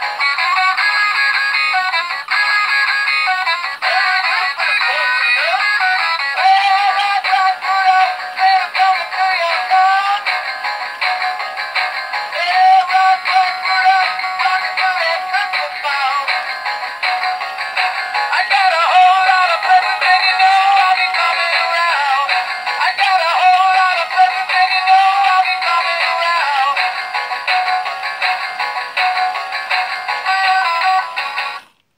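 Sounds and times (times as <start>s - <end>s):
tinny toy song with singing: 0.0s - 31.8s.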